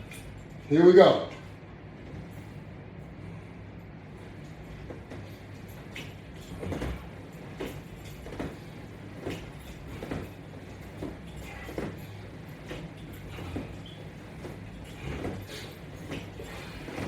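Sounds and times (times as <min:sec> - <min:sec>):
resistance strap exercise sounds: 0:00.0 - 0:17.0
steady low hum: 0:00.0 - 0:17.0.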